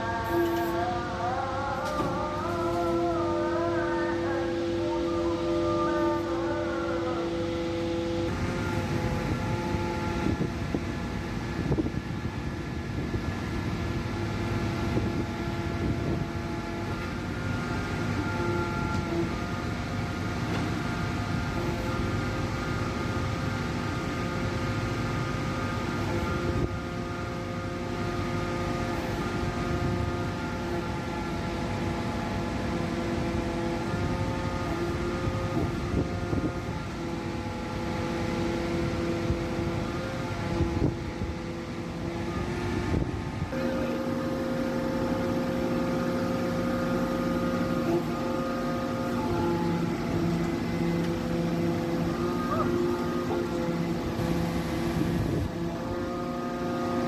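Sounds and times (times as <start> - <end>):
hydraulic whine: 0.0 - 57.0
pile driver engine rumble: 0.0 - 57.0.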